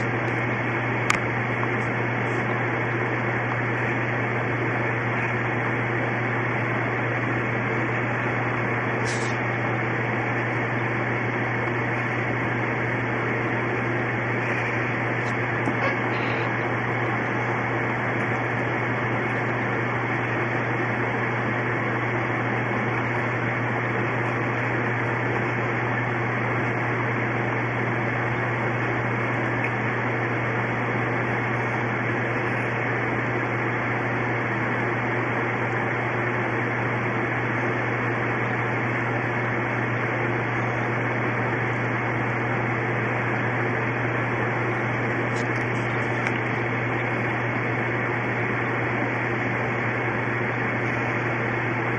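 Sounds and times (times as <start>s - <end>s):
machine hum with hiss: 0.0s - 51.9s.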